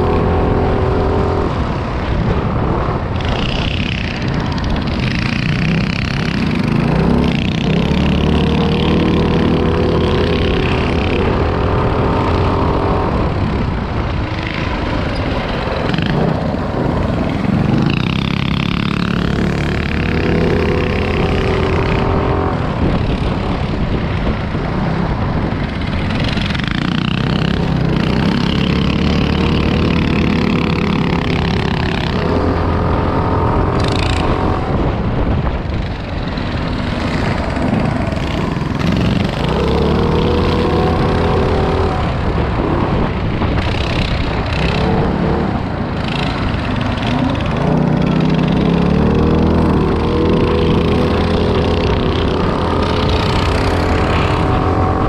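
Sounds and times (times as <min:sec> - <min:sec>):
minibike engine revving: 0:00.0 - 0:55.0
steady rushing noise: 0:00.0 - 0:55.0.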